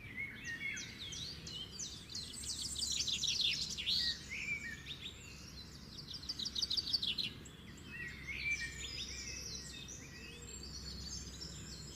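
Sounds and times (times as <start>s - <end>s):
songbirds singing: 0.0s - 11.9s.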